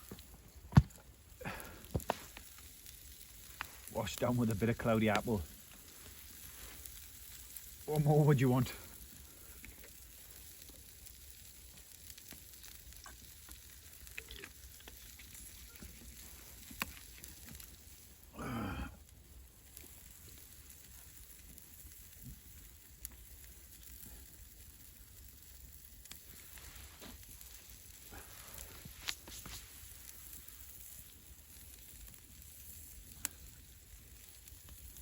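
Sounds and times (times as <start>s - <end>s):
fire crackles and pops: 0.0s - 35.0s
meat sizzling over campfire: 0.0s - 35.0s.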